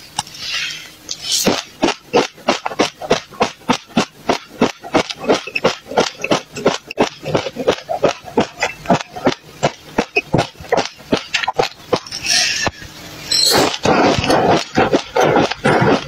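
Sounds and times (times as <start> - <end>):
chewing dry seeds crunching: 0.3 - 12.4, 13.5 - 16.0.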